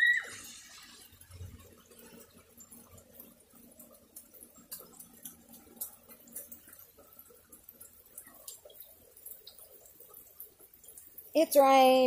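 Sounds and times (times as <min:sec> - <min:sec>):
drips ticking: 0:00.0 - 0:12.0
light rain falling: 0:00.0 - 0:12.0.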